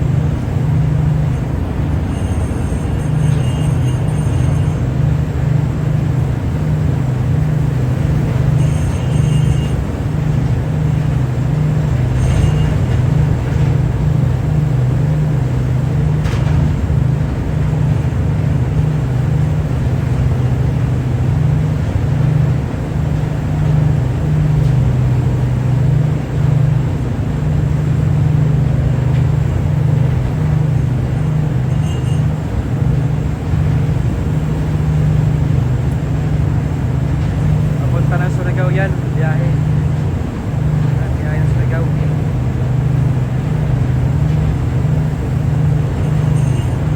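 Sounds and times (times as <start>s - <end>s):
ship engine droning: 0.0s - 46.9s.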